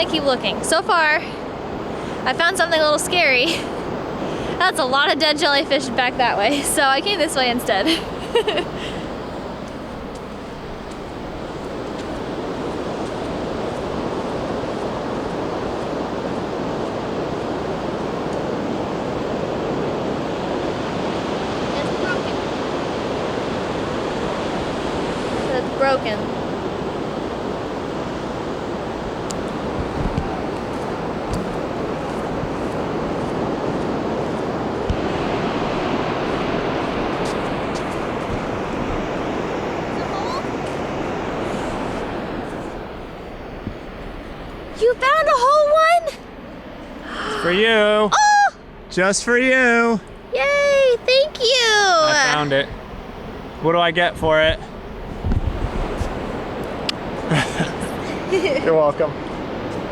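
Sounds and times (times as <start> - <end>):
ocean surf on beach: 0.0 - 59.9.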